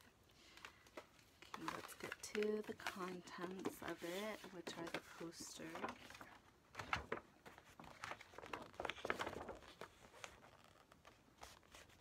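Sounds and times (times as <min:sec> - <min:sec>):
paper rustling and crinkling: 0:00.4 - 0:12.0.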